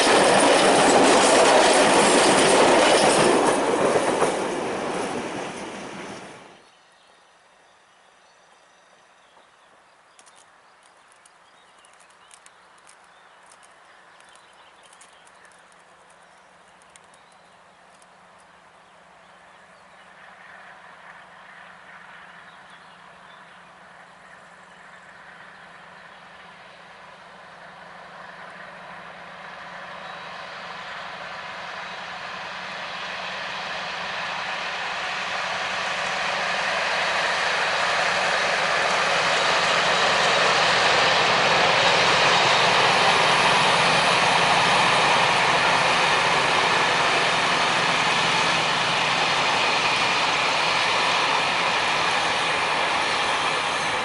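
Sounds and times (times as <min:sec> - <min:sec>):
train wheels rolling: 0:00.0 - 0:06.6, 0:09.3 - 0:18.7, 0:24.8 - 0:54.0
diesel locomotive engine drone: 0:00.0 - 0:54.0.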